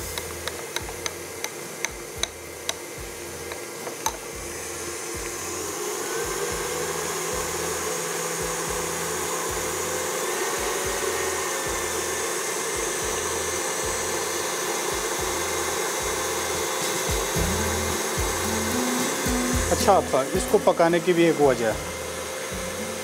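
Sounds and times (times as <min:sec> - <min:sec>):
stand mixer motor whirring: 0:00.0 - 0:23.0.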